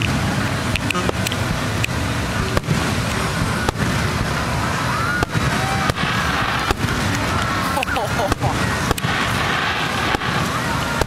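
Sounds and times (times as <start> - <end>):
fireworks rumble: 0.0 - 11.0
sharp firework bangs: 1.1 - 11.0.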